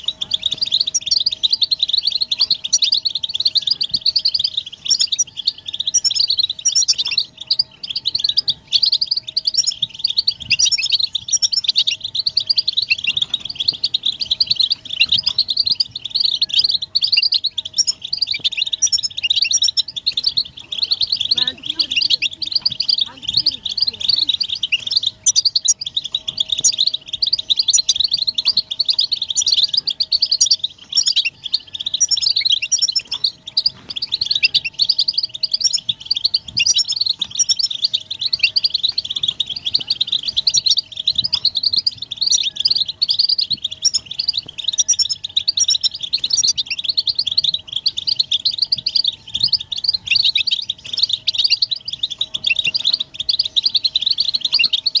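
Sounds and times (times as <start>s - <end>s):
goldfinches twittering: 0.0s - 55.0s.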